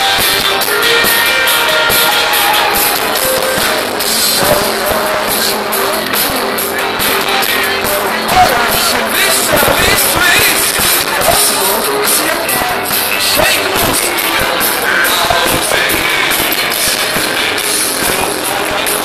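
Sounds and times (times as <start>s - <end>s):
live rock music with singing: 0.0s - 19.0s.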